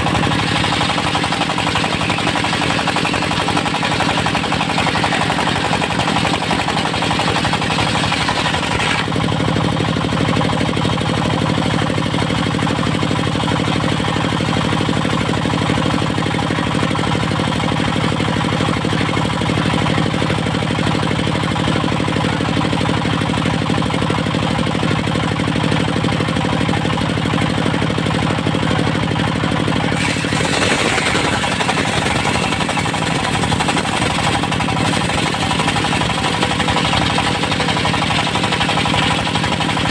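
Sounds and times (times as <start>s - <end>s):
sawmill blade cutting wood: 0.0s - 24.3s, 26.8s - 39.9s.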